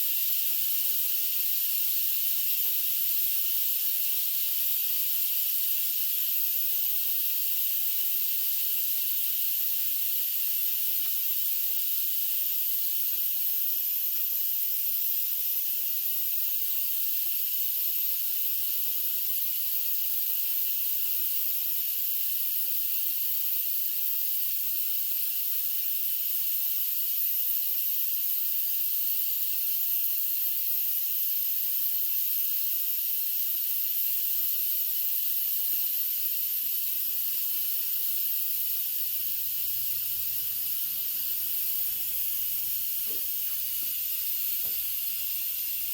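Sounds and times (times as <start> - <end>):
pressure cooker steam hissing: 0.0 - 45.9.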